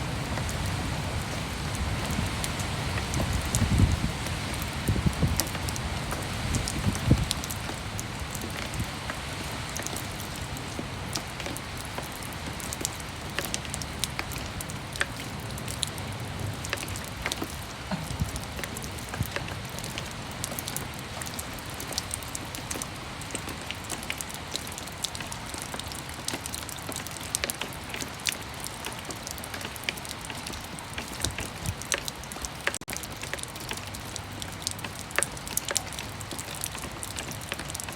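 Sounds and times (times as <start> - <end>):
raindrops tapping on hard surfaces: 0.0 - 37.9
steady rain falling: 0.0 - 37.9.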